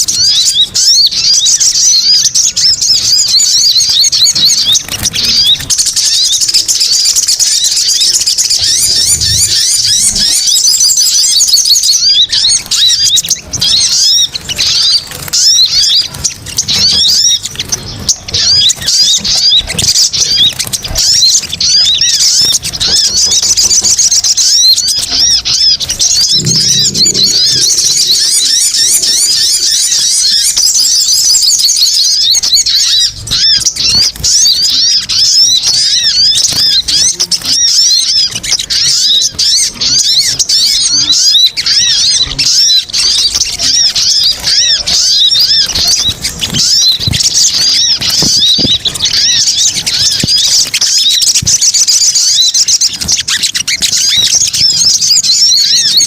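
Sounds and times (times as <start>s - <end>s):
high-pitched bird chirps: 0.0s - 56.0s.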